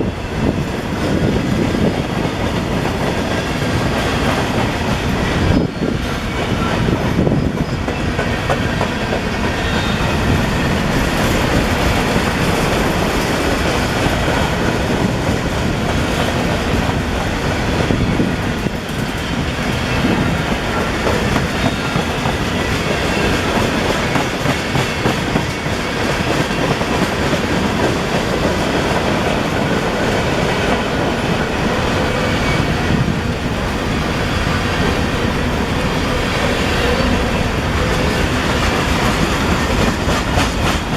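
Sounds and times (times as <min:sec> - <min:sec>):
freight train wheels rumbling on rails: 0:00.0 - 0:40.9.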